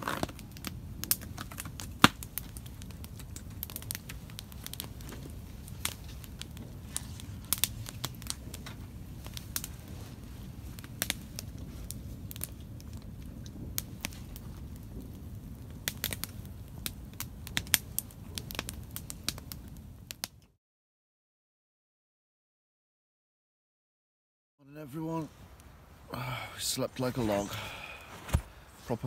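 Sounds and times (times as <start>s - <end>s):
campfire crackling and popping: 0.0s - 20.6s, 24.8s - 29.0s.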